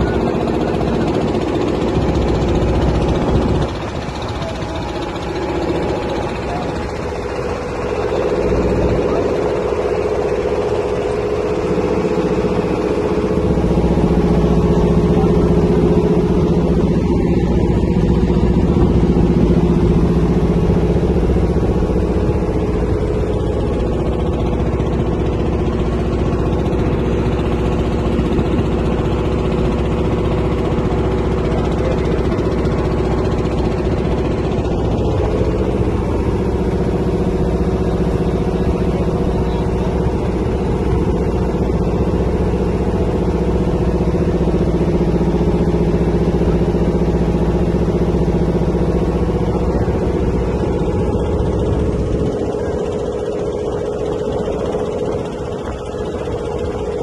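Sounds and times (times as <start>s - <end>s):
ferry engine running: 0.0s - 57.0s.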